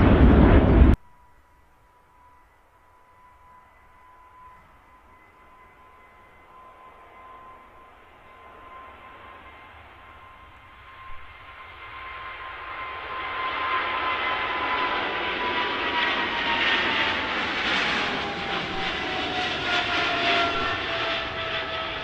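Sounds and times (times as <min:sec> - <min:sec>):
jet airliner engines passing: 0:00.0 - 0:01.0, 0:02.2 - 0:22.0.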